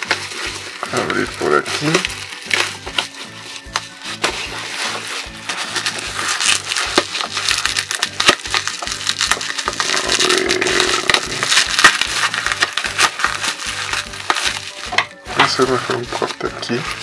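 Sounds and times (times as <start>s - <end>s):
bubble wrap and tape crinkling: 0.0s - 17.0s.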